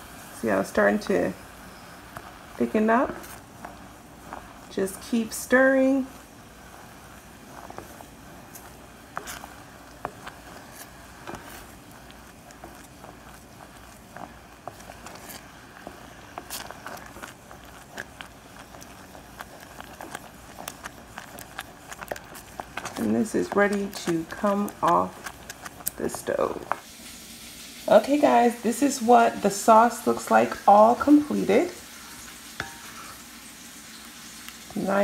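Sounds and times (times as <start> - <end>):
wooden spoon scraping saucepan: 0.2 - 26.9, 28.2 - 34.0.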